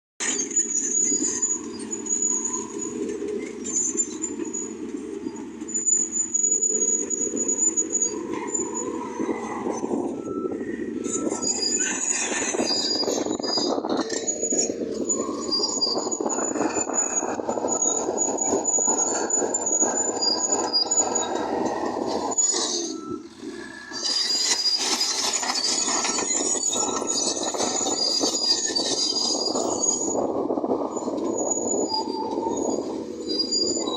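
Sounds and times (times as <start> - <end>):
bulldozer diesel engine: 0.2 - 33.9
crawler tracks squealing: 0.2 - 33.9.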